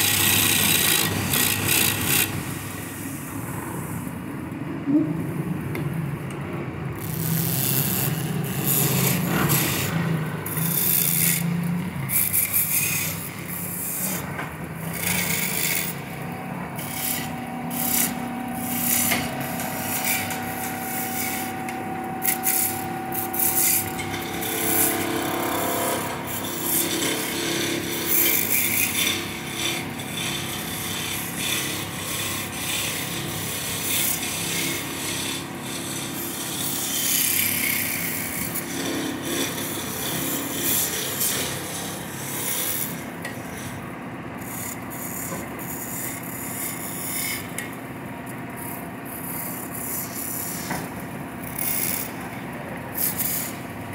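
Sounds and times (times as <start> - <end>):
tool scraping wood on a lathe: 0.0 - 2.6, 7.0 - 47.8, 48.6 - 53.8.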